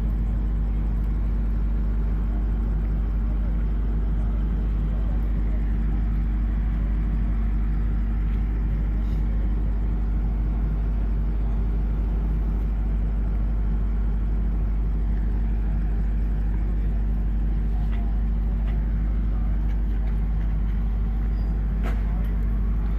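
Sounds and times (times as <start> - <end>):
low engine-like rumble: 0.0 - 22.9.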